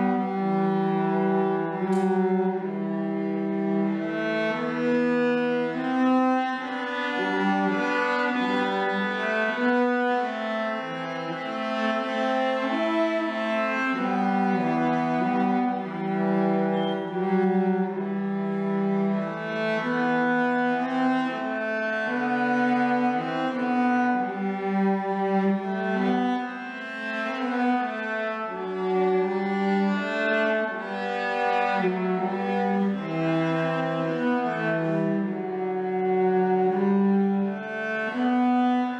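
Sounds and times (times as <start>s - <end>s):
two cellos playing a duet: 0.0s - 38.9s.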